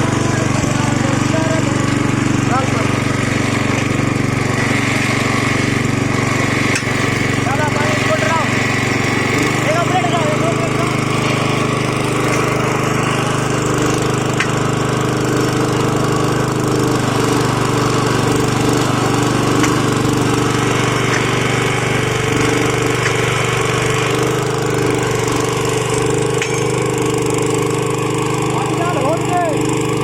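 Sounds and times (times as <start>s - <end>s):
drilling machine boring steel: 0.0s - 30.0s.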